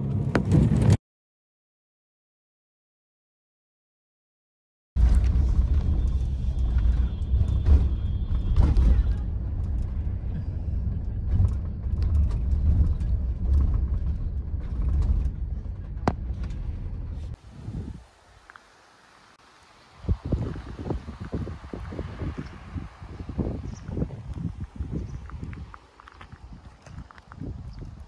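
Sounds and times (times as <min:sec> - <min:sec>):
bus engine rumble: 0:00.0 - 0:01.0, 0:05.0 - 0:28.0.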